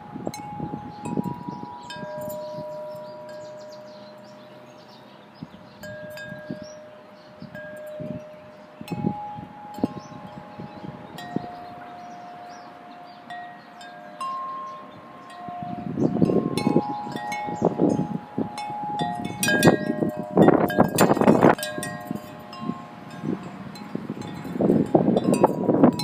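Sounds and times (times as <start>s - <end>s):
low rushing wind noise: 0.0s - 26.0s
metal tube wind chime ringing: 0.0s - 26.0s.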